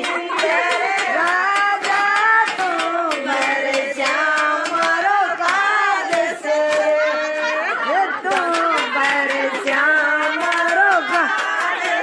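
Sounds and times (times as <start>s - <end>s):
hand clapping: 0.0s - 7.0s, 8.2s - 12.0s
women singing folk song: 0.0s - 12.0s.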